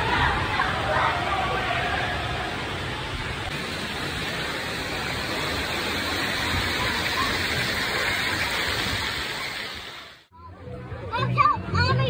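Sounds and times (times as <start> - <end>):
falling and spraying water: 0.0 - 10.3.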